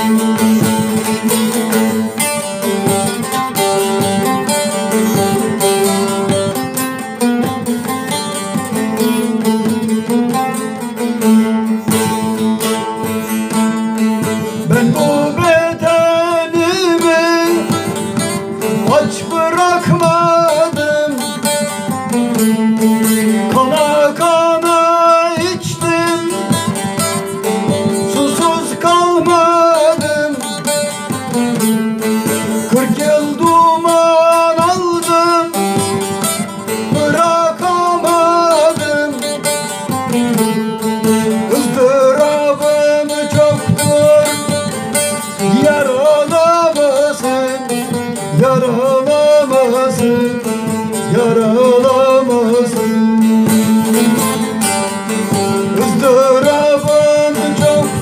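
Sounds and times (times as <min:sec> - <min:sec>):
long-necked lute plucked and strummed: 0:00.0 - 0:58.0
man singing: 0:08.4 - 0:58.0.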